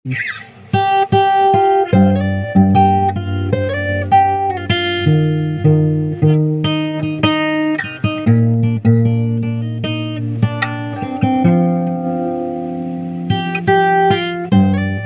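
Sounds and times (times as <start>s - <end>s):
acoustic guitar chords: 0.1s - 15.0s.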